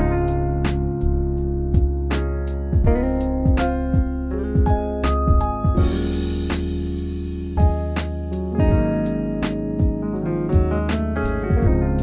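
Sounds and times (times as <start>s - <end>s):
keyboard chords over a beat: 0.0s - 12.0s.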